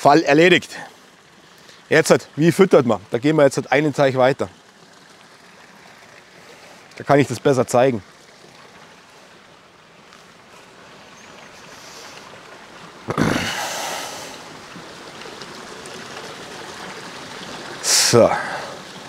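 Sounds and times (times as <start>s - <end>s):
flowing water: 0.0s - 19.0s.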